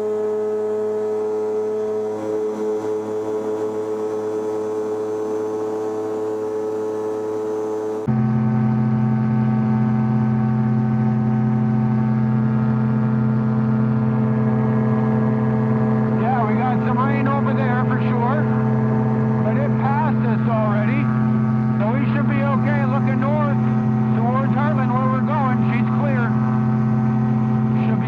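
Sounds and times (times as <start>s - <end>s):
ultralight aircraft in cruise flight: 0.0s - 28.0s
ultralight engine and propeller drone: 0.0s - 28.0s.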